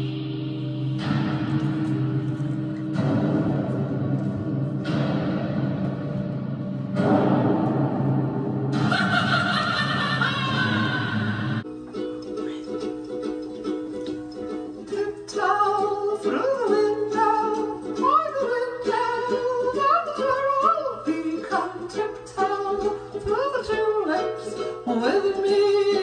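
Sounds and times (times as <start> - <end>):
plucked string accompaniment: 0.0 - 26.0.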